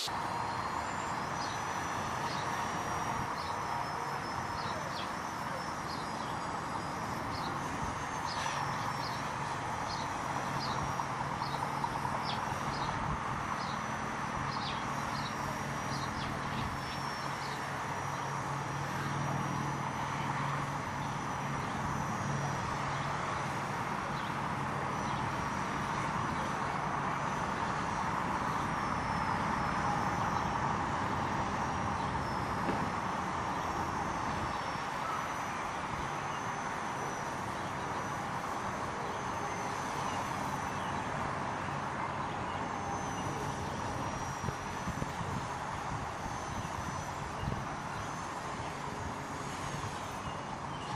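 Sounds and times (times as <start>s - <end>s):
rc helicopter motor whine: 0.0s - 50.9s.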